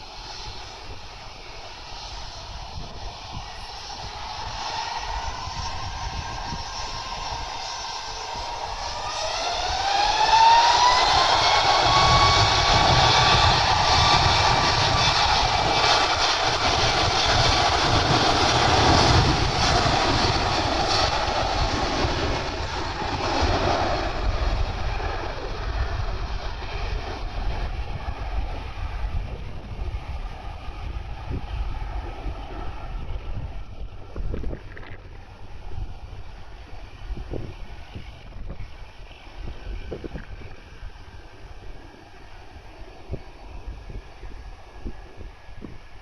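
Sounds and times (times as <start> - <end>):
jet engine roaring: 0.0 - 46.0.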